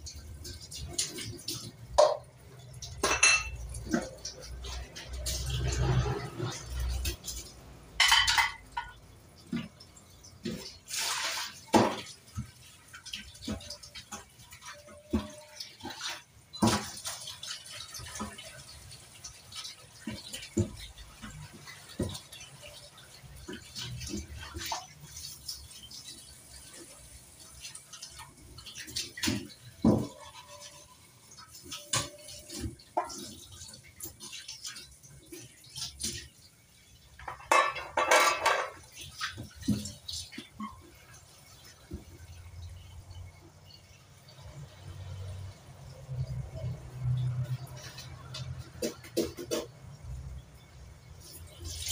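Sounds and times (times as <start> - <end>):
pots and utensils clinking: 0.0 - 43.2, 43.9 - 51.9
water splashing and dripping: 0.0 - 51.9.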